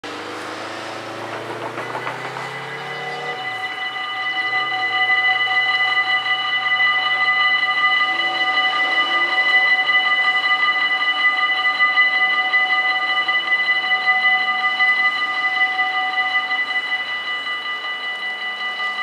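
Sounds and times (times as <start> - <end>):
level crossing warning bells: 0.0 - 19.0.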